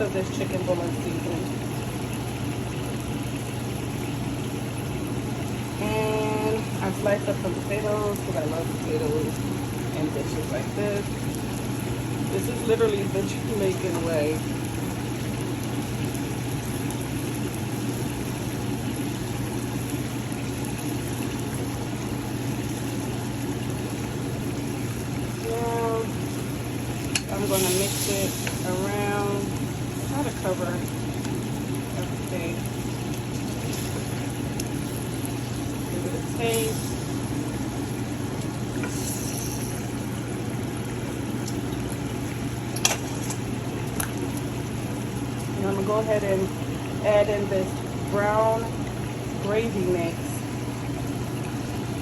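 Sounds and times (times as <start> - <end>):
food sizzling in a pot: 0.0 - 50.5
low hum and hiss: 0.0 - 52.0.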